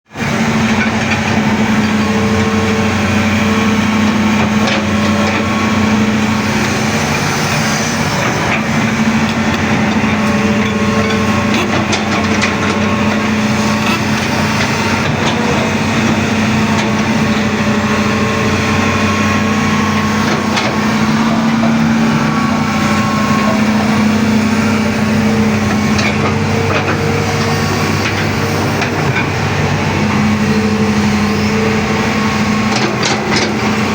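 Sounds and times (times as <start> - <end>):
excavator engine droning: 0.1 - 33.9.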